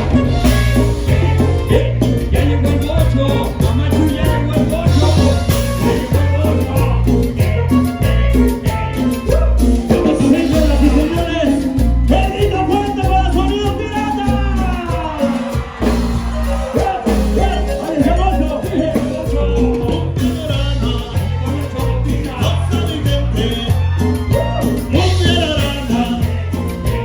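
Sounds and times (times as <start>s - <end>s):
latin dance music: 0.0s - 27.0s
person singing: 0.0s - 27.0s
pulsing bass beat: 0.0s - 27.0s.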